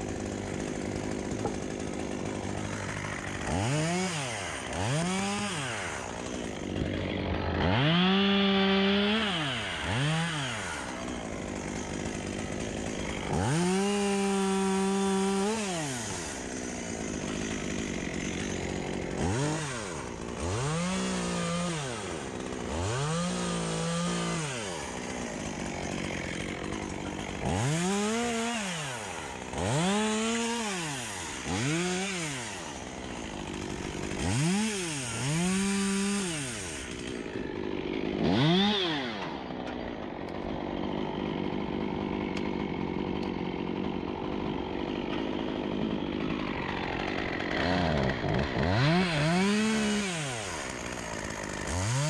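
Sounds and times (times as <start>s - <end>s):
chainsaw revving and idling: 0.0s - 52.0s.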